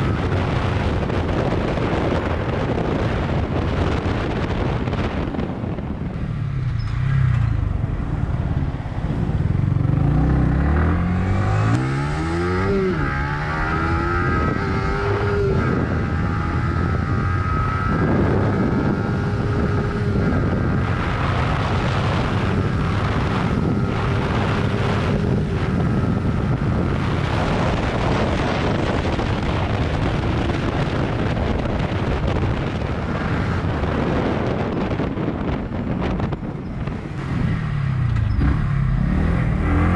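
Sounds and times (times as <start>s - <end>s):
motorcycle engine accelerating: 0.0s - 39.9s
wind on microphone: 0.0s - 39.9s.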